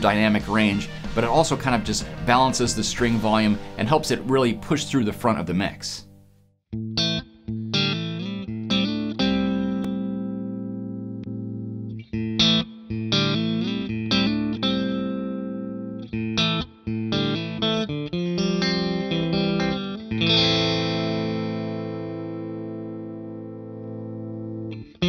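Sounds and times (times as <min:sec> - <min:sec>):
electric guitar playing chords: 0:00.0 - 0:25.0.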